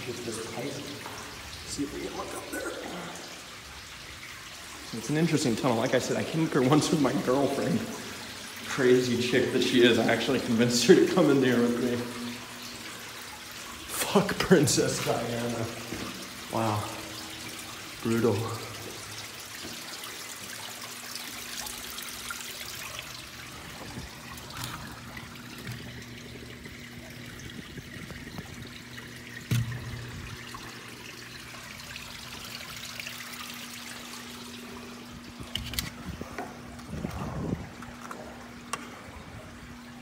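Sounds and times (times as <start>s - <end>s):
water trickling over rock: 0.0s - 38.8s.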